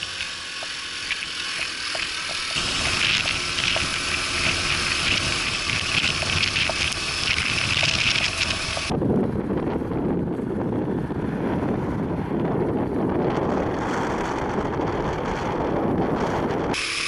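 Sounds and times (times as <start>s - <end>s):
rushing wind and road noise: 0.0s - 17.0s
wind buffeting microphone: 2.4s - 16.8s.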